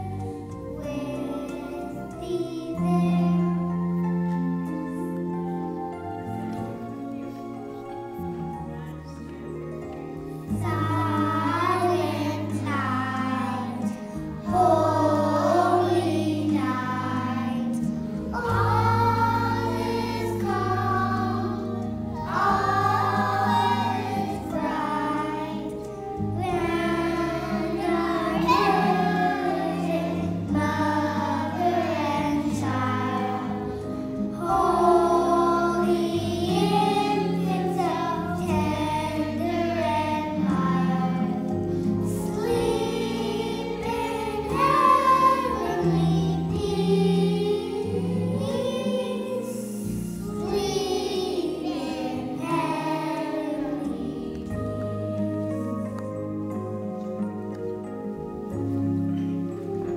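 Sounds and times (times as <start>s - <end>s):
children singing together: 0.0s - 5.2s, 10.5s - 55.9s.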